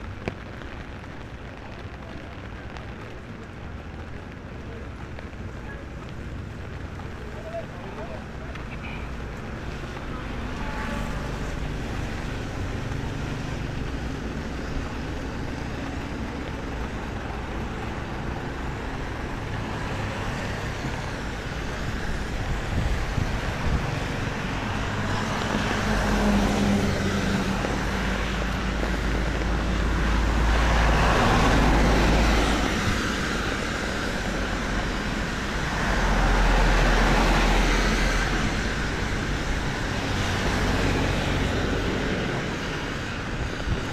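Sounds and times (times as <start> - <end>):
low traffic rumble: 0.0 - 43.9
tyres swishing on wet road: 0.0 - 43.9.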